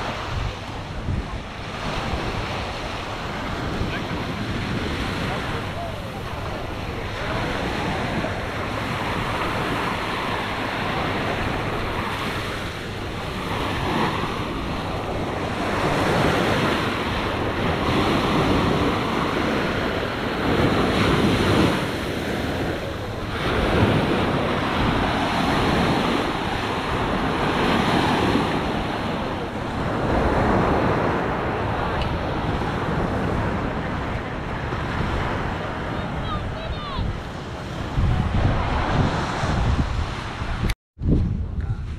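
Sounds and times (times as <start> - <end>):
small waves breaking on sand: 0.0 - 40.6
wind rumbling on microphone: 0.0 - 41.9.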